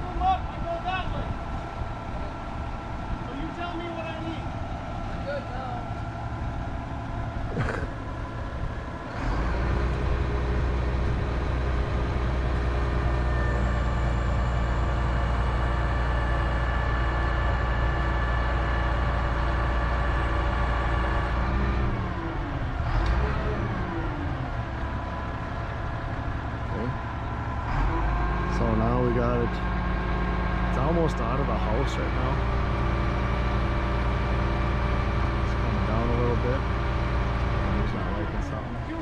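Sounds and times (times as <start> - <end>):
crane engine running under load: 0.0 - 39.0.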